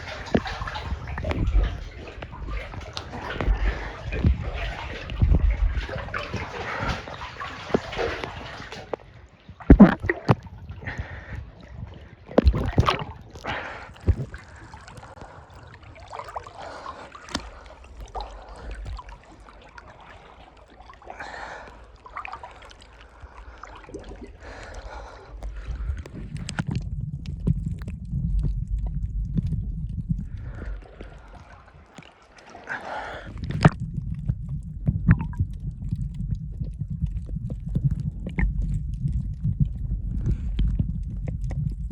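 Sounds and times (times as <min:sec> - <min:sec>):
low rumble: 0:00.0 - 0:31.9, 0:33.0 - 0:41.9
water slapping against boat hull: 0:00.0 - 0:41.9.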